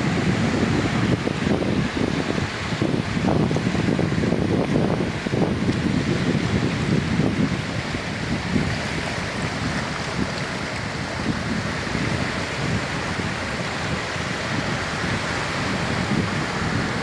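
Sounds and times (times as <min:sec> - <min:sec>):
sea waves washing onto beach: 0:00.0 - 0:17.0.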